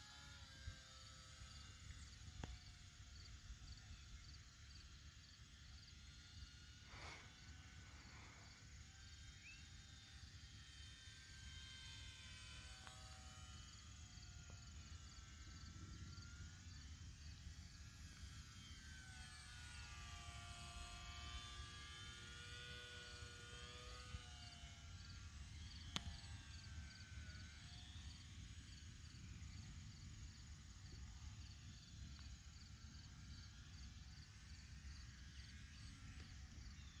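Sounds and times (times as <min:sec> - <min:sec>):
model airplane motor whine: 0:00.0 - 0:37.0.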